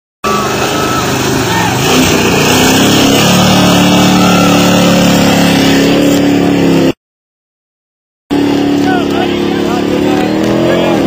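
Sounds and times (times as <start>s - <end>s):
truck engine revving: 0.2s - 7.0s, 8.3s - 11.0s.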